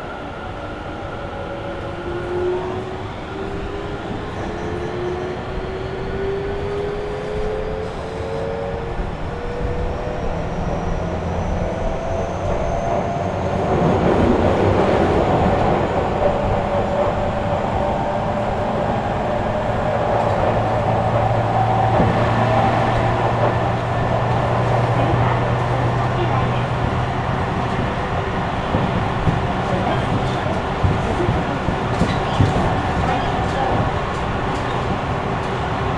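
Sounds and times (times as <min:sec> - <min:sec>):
train wheels rumbling on rail: 0:00.0 - 0:35.9.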